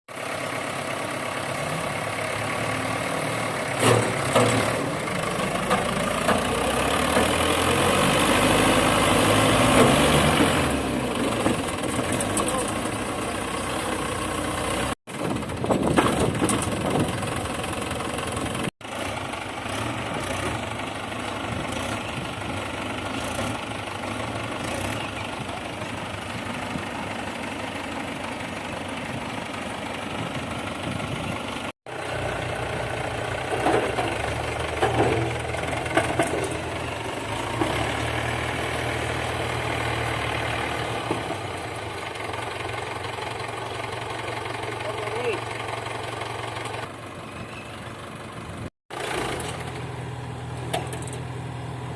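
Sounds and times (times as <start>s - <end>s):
diesel tractor engine running: 0.1s - 51.9s.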